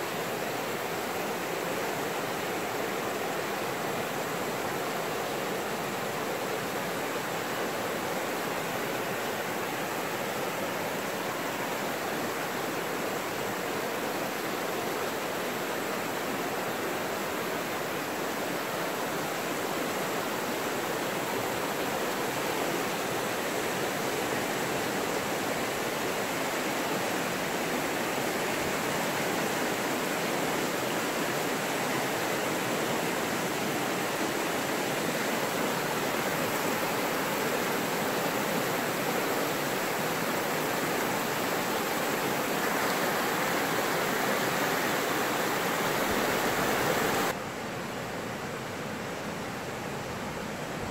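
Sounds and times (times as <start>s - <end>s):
river rapids roaring: 0.0s - 50.9s.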